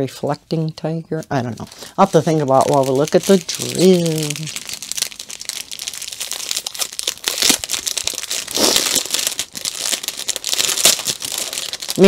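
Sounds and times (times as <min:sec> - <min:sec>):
plastic bags crinkling: 0:01.2 - 0:12.0.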